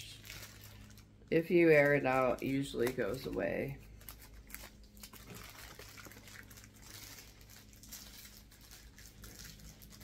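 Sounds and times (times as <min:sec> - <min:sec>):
low room hum: 0:00.0 - 0:10.0
plastic wrapping crinkling: 0:00.0 - 0:10.0.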